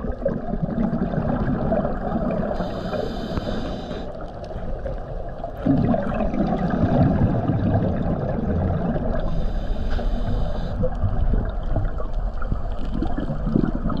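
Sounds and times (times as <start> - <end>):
diver's regulator rumble and gurgle: 0.0 - 14.0
exhaled bubbles underwater: 0.0 - 14.0.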